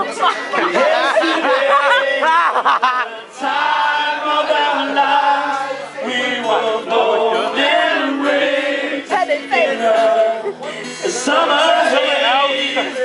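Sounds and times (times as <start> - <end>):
voices singing together: 0.2 - 13.0.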